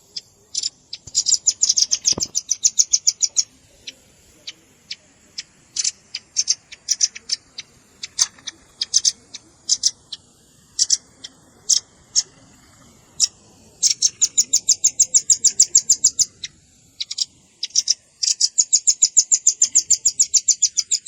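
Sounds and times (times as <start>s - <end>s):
bird chips trilling: 0.0s - 21.0s.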